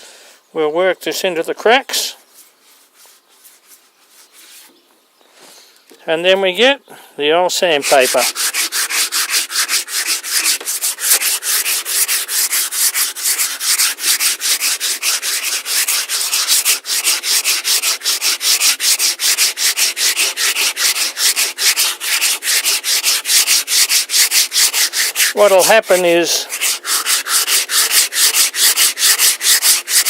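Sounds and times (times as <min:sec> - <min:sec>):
sandpaper rubbing on wood: 0:02.3 - 0:04.8, 0:07.6 - 0:30.0.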